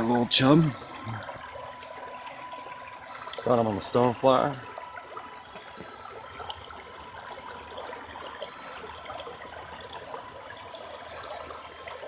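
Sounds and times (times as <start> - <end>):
small creek trickling: 0.0 - 12.0.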